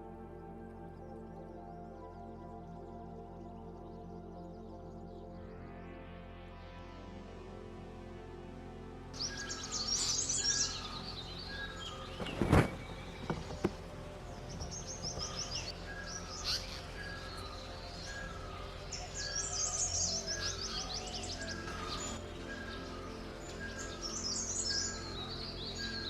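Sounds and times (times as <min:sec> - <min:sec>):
birds singing: 0:00.0 - 0:06.6, 0:09.0 - 0:26.0.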